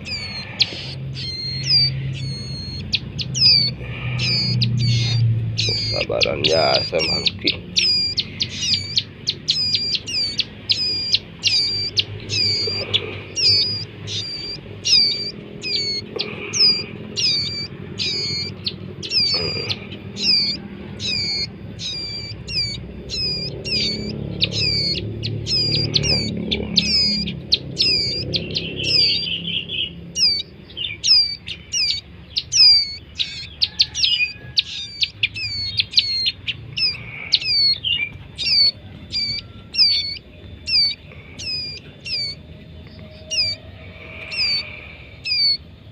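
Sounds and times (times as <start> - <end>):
young birds chirping: 0.0 - 45.9.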